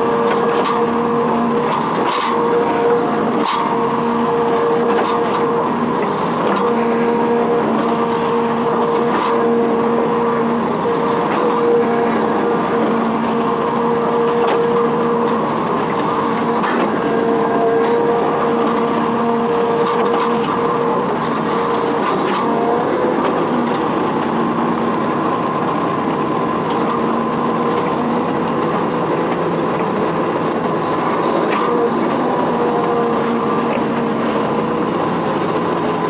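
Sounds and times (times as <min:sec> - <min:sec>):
diesel engine rumbling: 0:00.0 - 0:36.0.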